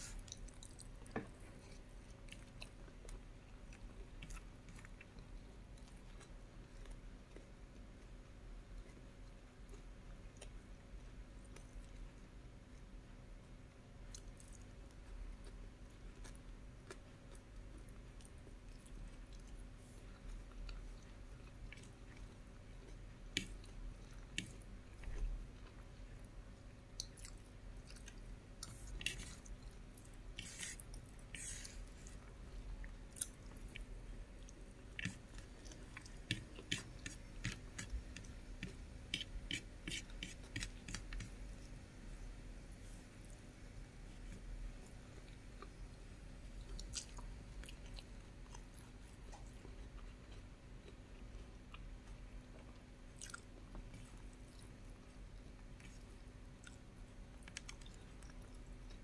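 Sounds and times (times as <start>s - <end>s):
faint steady hum: 0.0s - 59.0s
chewing with wet mouth clicks: 0.2s - 10.6s, 14.1s - 30.2s, 32.1s - 41.3s, 46.6s - 59.0s.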